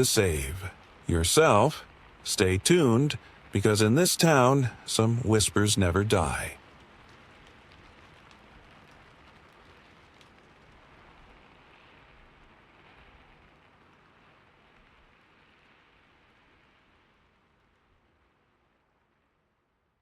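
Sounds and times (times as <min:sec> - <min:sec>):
steady rain hissing: 0:00.0 - 0:19.4.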